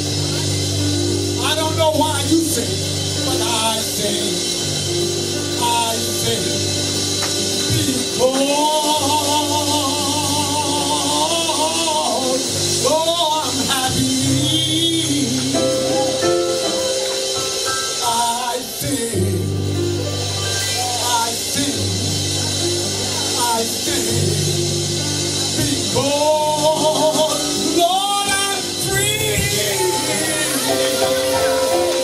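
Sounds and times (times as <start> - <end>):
keyboard playing sustained chords: 0.0 - 32.0
man singing through a microphone: 1.4 - 16.6, 17.8 - 31.8.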